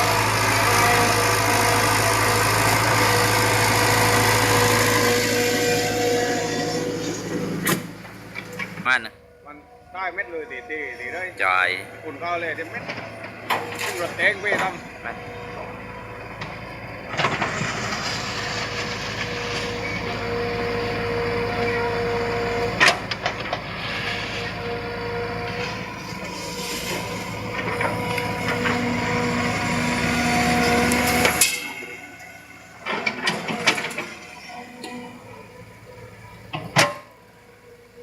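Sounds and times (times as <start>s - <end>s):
excavator engine and hydraulics whining: 0.0s - 38.0s.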